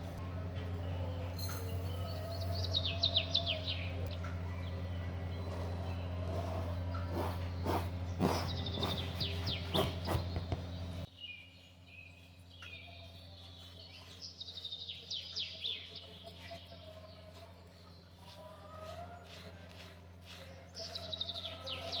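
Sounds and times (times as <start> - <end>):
small birds chirping: 0.0 - 22.0
steady low hum: 0.0 - 22.0.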